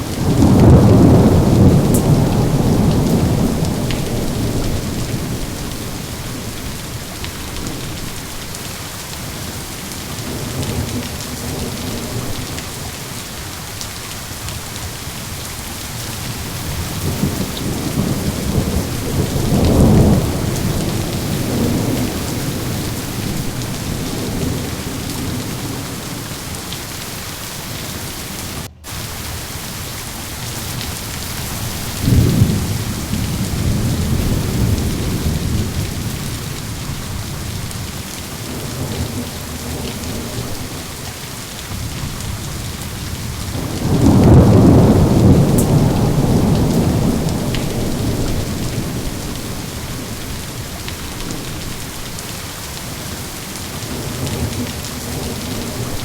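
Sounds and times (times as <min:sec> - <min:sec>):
low rolls of thunder: 0:00.0 - 0:13.2, 0:16.0 - 0:26.9, 0:30.5 - 0:52.8
steady rain falling: 0:00.0 - 0:56.0.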